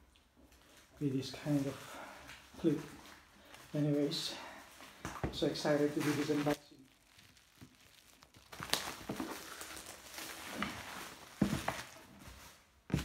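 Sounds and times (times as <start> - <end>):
plastic film crinkling: 0.1 - 13.0.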